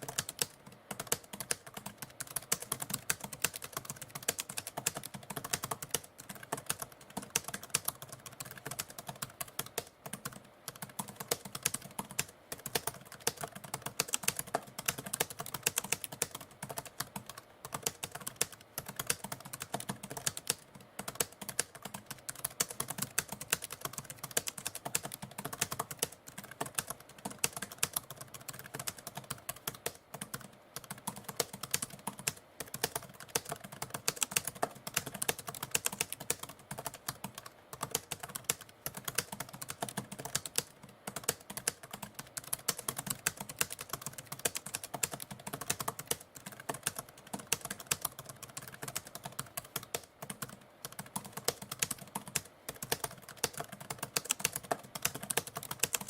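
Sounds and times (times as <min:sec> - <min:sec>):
typewriter keystrokes clacking: 0:00.0 - 0:56.0.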